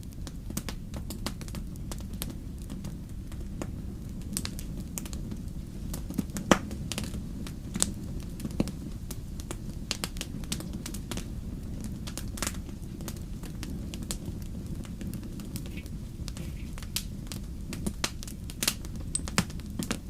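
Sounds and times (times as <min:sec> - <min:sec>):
burning logs crackling and popping: 0:00.0 - 0:20.0
campfire flames rumbling: 0:00.0 - 0:20.0.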